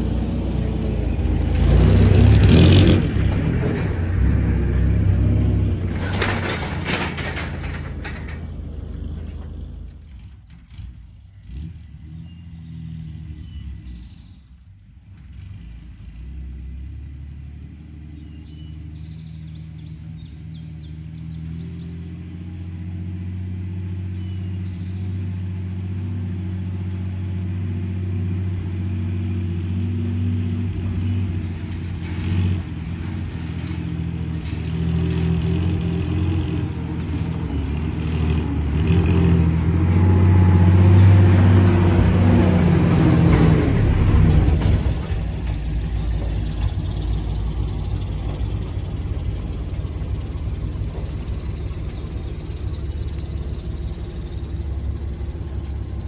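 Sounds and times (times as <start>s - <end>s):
van engine pulling a trailer: 0.0s - 56.0s.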